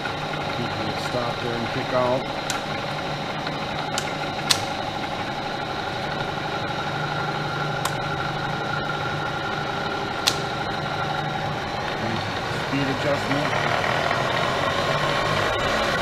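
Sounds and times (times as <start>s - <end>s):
milling machine humming: 0.0s - 16.0s.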